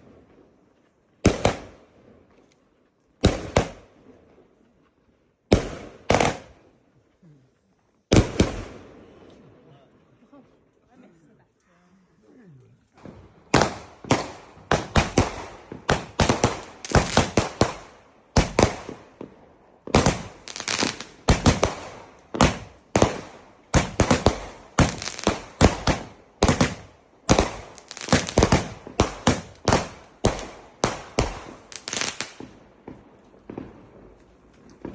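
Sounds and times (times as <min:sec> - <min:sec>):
fireworks bangs: 0:00.0 - 0:02.4, 0:03.2 - 0:04.6, 0:05.5 - 0:06.8, 0:08.1 - 0:10.0, 0:13.0 - 0:34.9.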